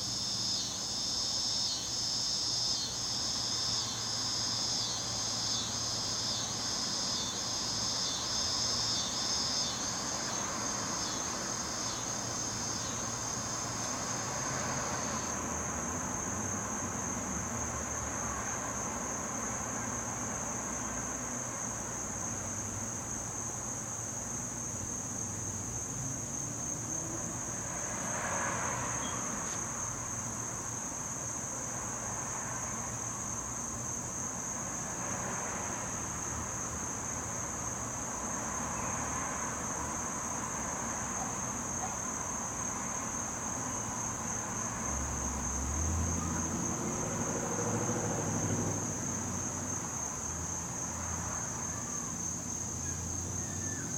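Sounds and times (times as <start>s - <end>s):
background hiss: 0.0s - 53.9s
high-pitched insect chorus: 0.0s - 53.9s.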